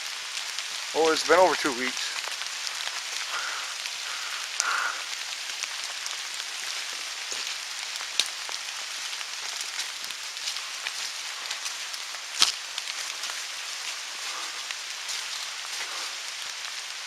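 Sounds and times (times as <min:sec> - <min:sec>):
raindrops landing close by: 0:00.0 - 0:17.0
steady rain hiss: 0:00.0 - 0:17.0.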